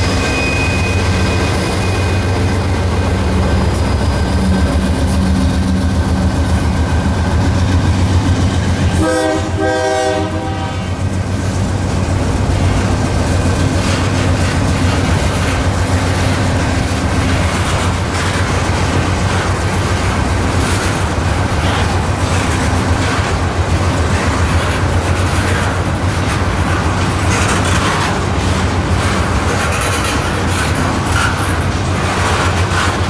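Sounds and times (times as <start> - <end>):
freight train rumbling past: 0.0 - 33.0
steel wheels clattering over rail joints: 0.0 - 33.0.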